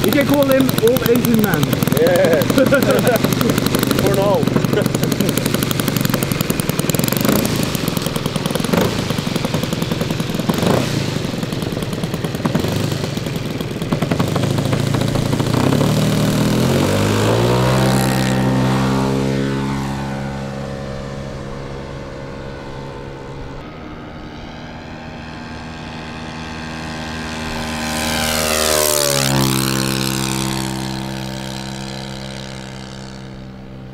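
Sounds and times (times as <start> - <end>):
model plane propeller engine: 0.0 - 33.9.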